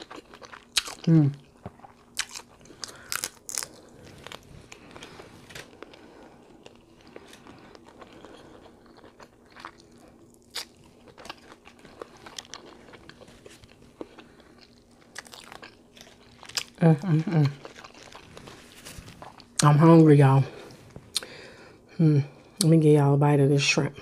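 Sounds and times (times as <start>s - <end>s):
person chewing food: 0.0s - 19.7s, 20.6s - 21.8s.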